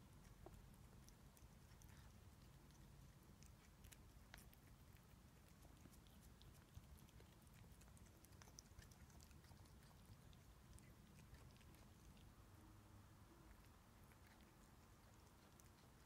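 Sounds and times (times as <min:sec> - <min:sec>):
cat chewing: 0:00.0 - 0:16.0.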